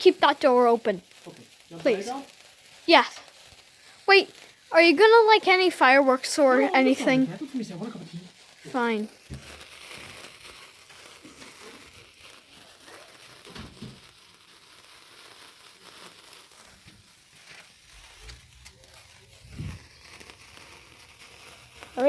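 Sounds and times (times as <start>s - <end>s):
sparkler fizzing and crackling: 0.0s - 22.0s.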